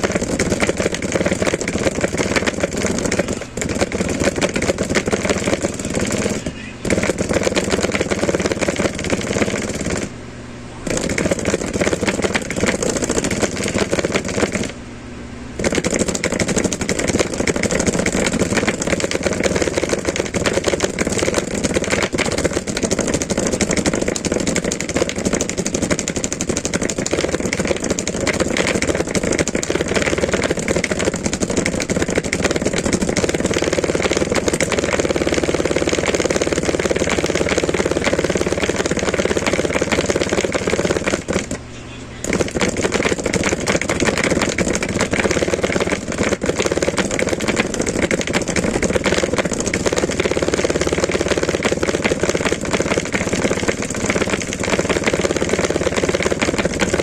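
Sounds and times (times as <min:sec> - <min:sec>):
loudspeaker crackling distortion: 0:00.0 - 0:14.9, 0:15.5 - 0:57.0.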